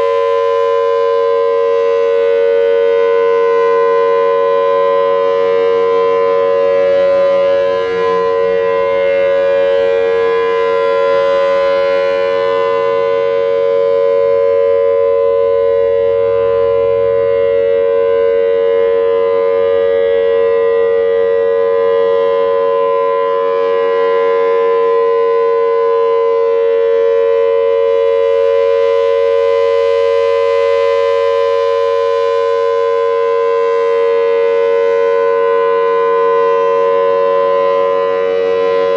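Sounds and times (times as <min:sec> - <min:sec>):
warning siren two-note tone: 0:00.0 - 0:38.9.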